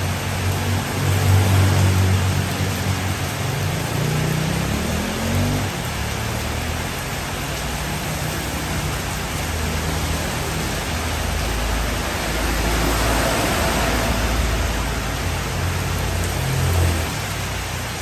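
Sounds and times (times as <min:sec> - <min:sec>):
heavy rain falling: 0:00.0 - 0:18.0
vehicle engine rumble: 0:00.0 - 0:18.0.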